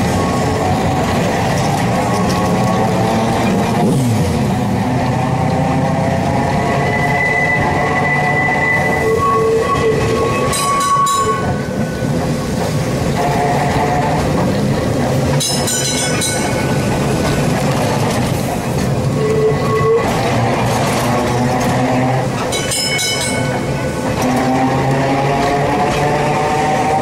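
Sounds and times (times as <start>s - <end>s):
tram rumbling and rattling: 0.0s - 27.0s.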